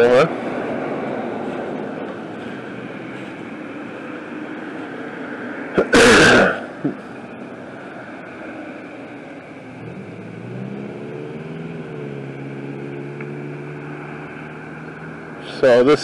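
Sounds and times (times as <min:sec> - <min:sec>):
passing car engine: 0:00.0 - 0:05.8, 0:06.6 - 0:16.0.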